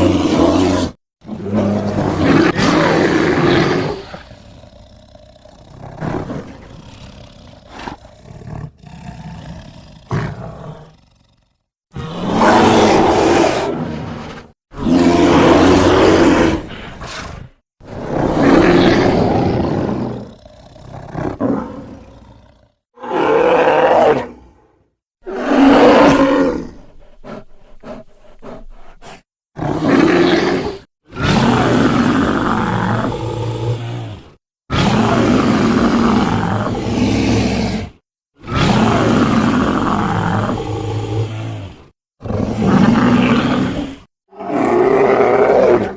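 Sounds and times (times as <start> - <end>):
animal roars: 0.0 - 45.9.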